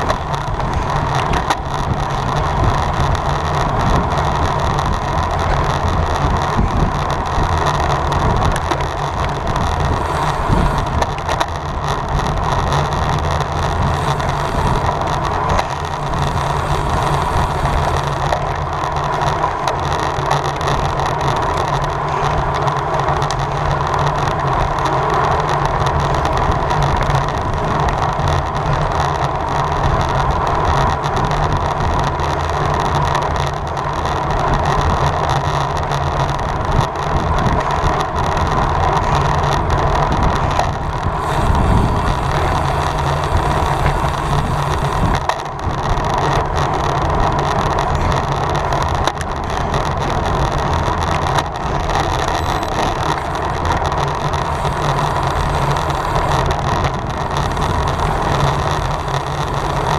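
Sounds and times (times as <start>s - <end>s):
bicycle tyre and drivetrain hum: 0.0s - 59.9s.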